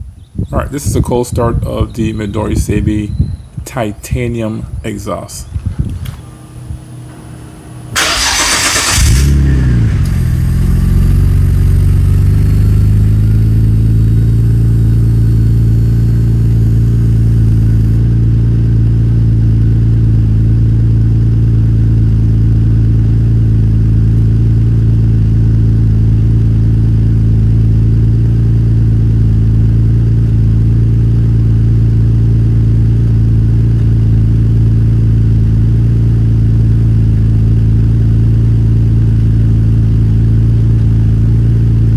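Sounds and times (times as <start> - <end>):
car engine revving and idling: 5.8 - 41.9.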